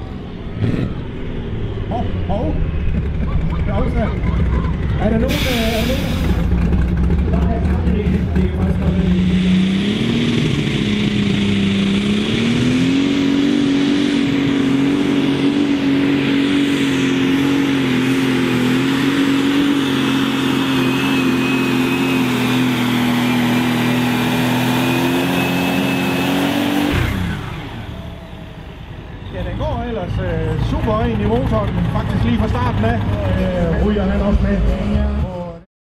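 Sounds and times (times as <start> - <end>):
diesel tractor engine at full throttle: 0.0 - 35.6.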